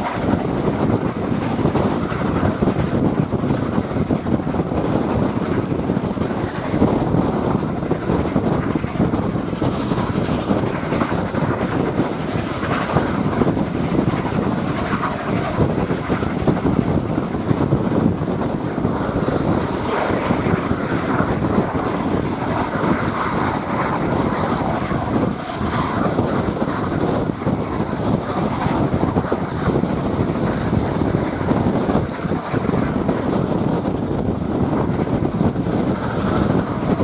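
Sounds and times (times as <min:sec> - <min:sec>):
steam locomotive working: 0:00.0 - 0:37.0
train running noise: 0:00.0 - 0:37.0
wind buffeting microphone: 0:00.0 - 0:37.0.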